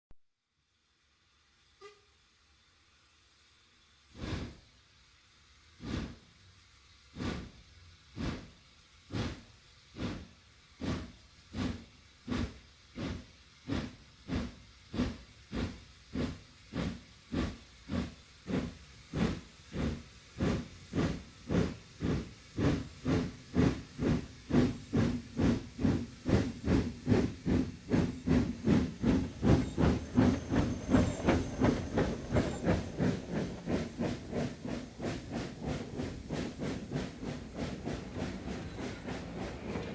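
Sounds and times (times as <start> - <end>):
steam locomotive exhaust chuffs: 1.1 - 39.9.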